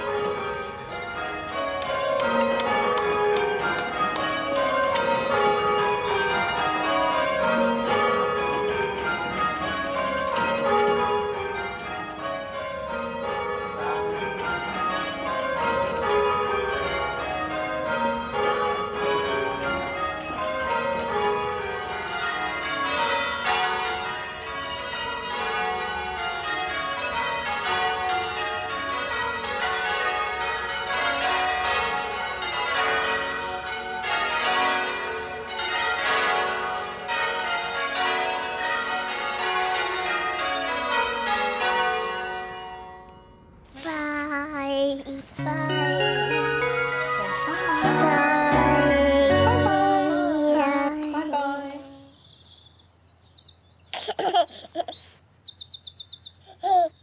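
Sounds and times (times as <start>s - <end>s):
church bells ringing: 0.0s - 44.6s, 45.2s - 52.4s.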